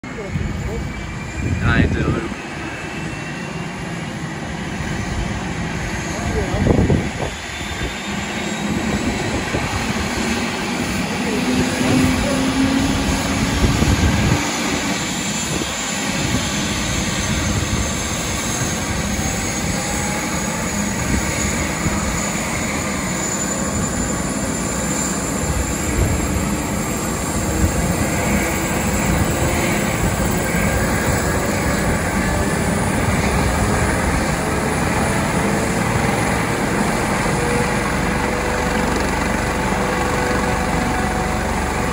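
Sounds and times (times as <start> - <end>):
helicopter turbine and rotor: 0.0 - 41.9.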